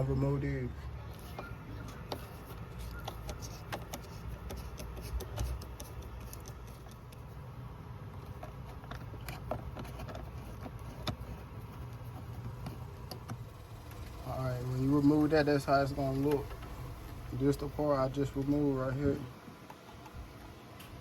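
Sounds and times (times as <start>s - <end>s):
low background rumble: 0.0s - 19.5s.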